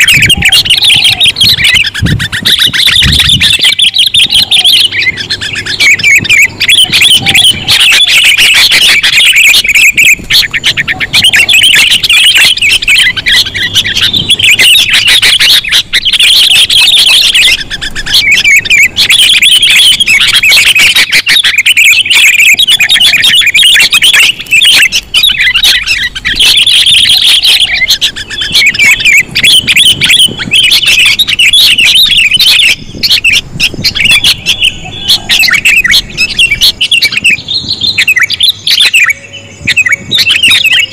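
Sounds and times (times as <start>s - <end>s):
bulbuls chirping: 0.0s - 40.9s.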